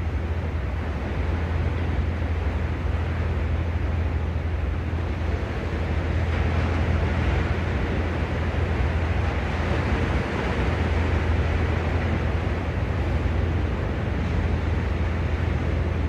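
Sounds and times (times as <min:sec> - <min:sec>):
constant low rumble: 0:00.0 - 0:16.0
sea surf washing on shore: 0:00.0 - 0:16.0.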